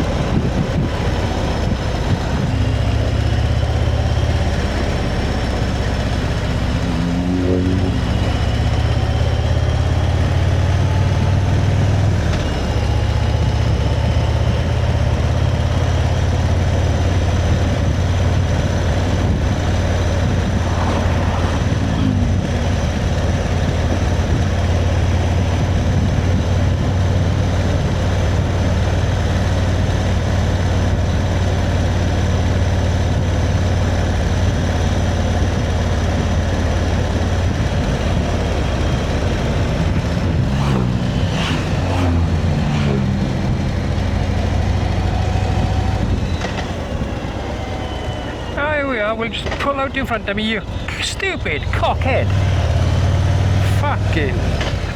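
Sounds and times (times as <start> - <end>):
motorcycle engine running: 0.0 - 48.9, 51.6 - 54.9
wind and road noise: 0.0 - 54.9.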